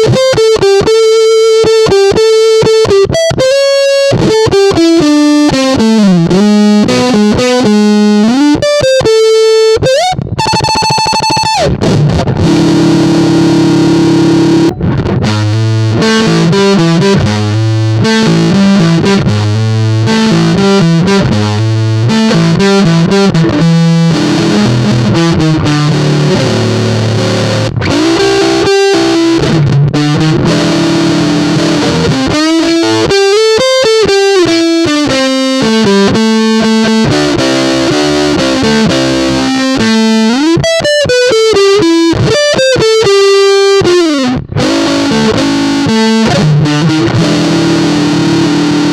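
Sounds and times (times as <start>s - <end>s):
fuzz electric guitar playing: 0.0s - 48.9s.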